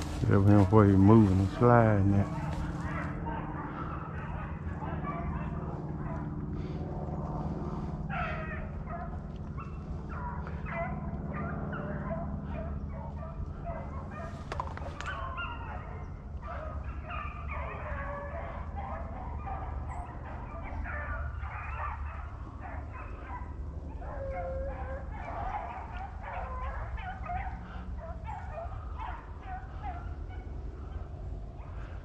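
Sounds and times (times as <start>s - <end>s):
hounds baying: 0.0s - 32.0s.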